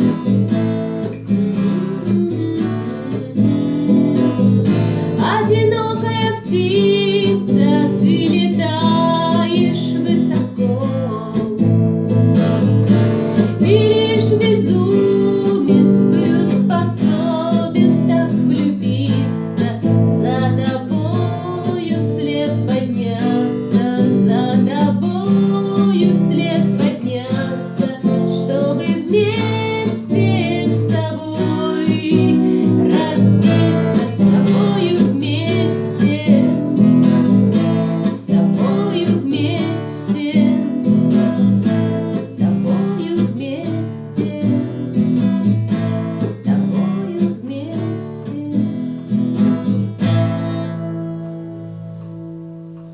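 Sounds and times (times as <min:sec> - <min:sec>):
acoustic guitar chords: 0:00.0 - 0:52.9.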